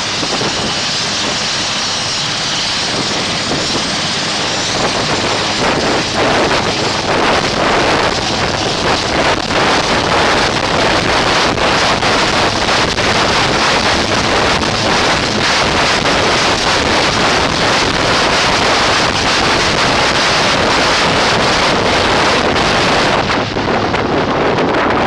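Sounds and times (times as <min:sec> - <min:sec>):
downwash buffeting microphone: 0:00.0 - 0:25.0
helicopter turbine and rotor noise: 0:00.0 - 0:25.0.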